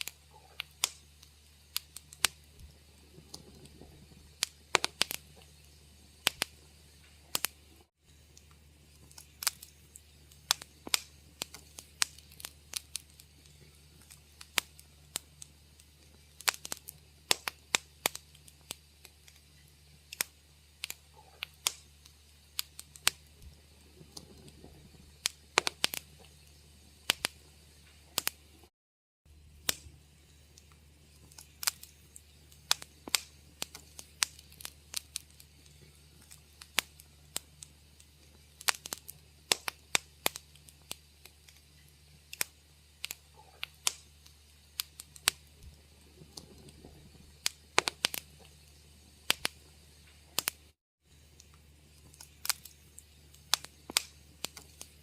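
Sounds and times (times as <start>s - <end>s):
faint low hum: 0.0s - 28.7s, 29.3s - 55.0s
wood fire crackling: 0.0s - 28.7s, 29.3s - 55.0s.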